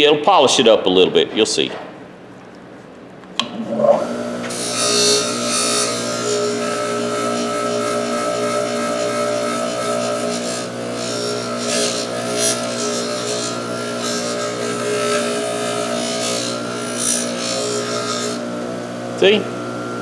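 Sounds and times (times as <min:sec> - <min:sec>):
polishing wheel humming: 0:03.8 - 0:20.0.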